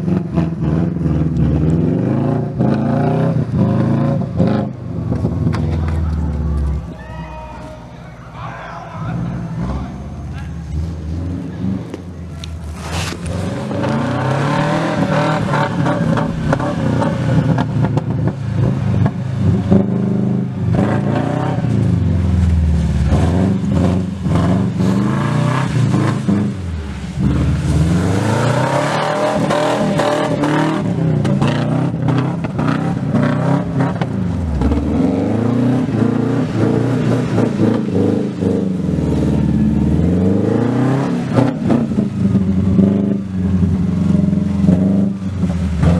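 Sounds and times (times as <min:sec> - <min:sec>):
car engine revving: 0:07.6 - 0:45.9.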